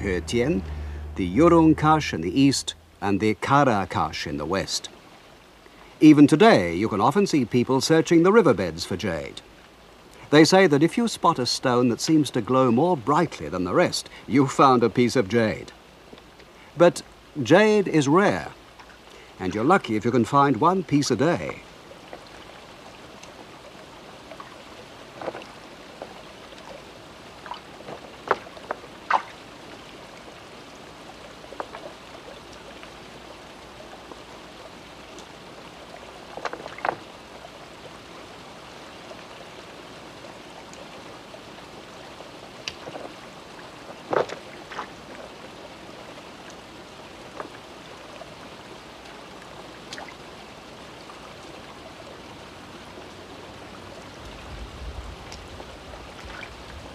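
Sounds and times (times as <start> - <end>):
river water over stones: 0.0 - 56.9.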